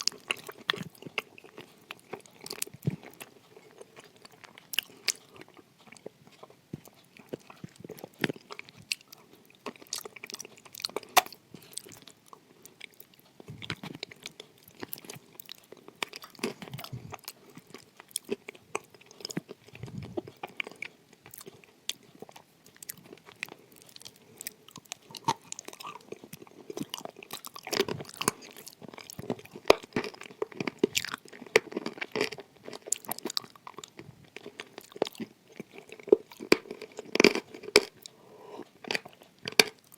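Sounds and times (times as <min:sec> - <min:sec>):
chewing crunchy clay: 0:00.0 - 0:39.9.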